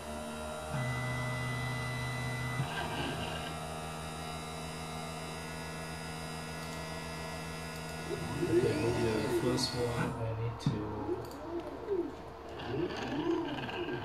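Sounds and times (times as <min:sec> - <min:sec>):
steady electrical hum: 0:00.0 - 0:14.0
stepper motors whining: 0:00.0 - 0:14.0.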